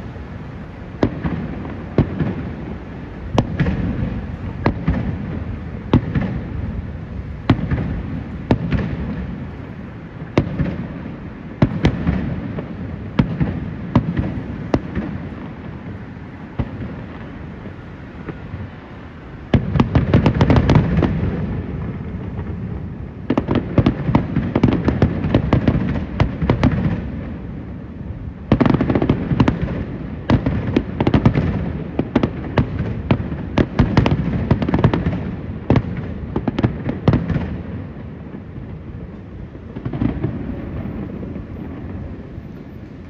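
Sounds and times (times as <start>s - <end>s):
fireworks bursting: 0.0s - 43.0s.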